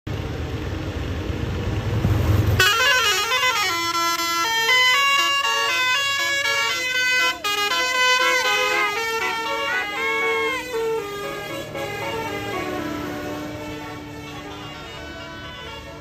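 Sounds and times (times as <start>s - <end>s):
bus engine rumble: 0.0s - 16.0s
multi-note horn melody: 2.6s - 16.0s.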